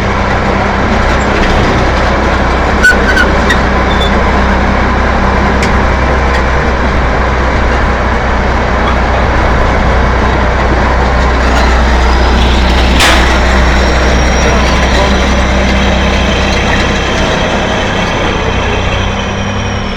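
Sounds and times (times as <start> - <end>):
diesel engine running steadily: 0.0 - 19.9.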